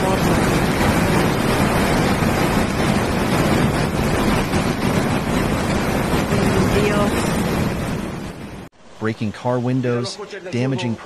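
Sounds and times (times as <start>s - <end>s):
flood torrent rushing: 0.0s - 11.0s.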